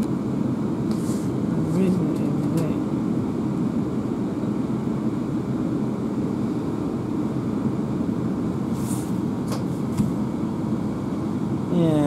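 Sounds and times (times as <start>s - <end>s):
train carriage low rumble: 0.0s - 12.0s.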